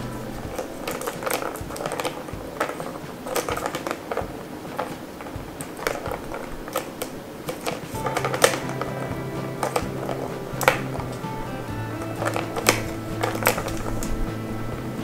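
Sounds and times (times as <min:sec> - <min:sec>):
plastic balls clicking and rattling: 0:00.0 - 0:14.8.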